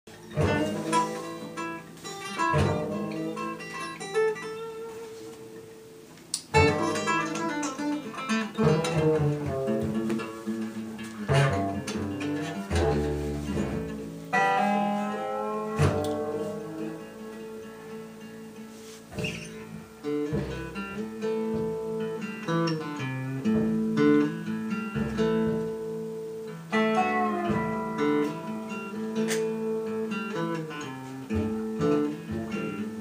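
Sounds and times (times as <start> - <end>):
strummed acoustic guitar: 0.1 - 33.0.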